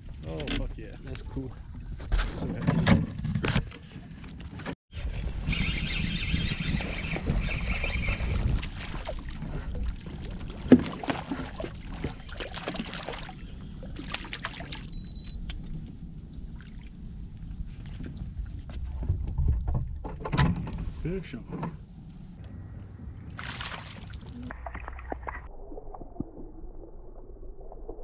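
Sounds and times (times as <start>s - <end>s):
wind and water rumble: 0.0s - 28.0s.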